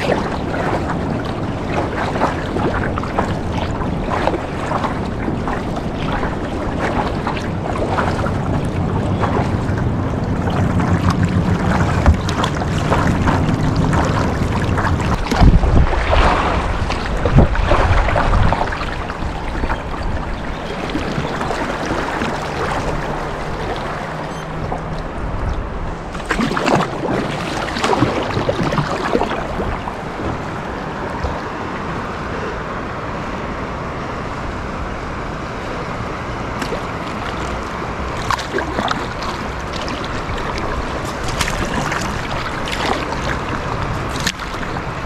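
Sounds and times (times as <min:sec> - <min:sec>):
water sloshing around kayak: 0:00.0 - 0:32.7, 0:35.1 - 0:45.0
wind on microphone: 0:00.0 - 0:45.0.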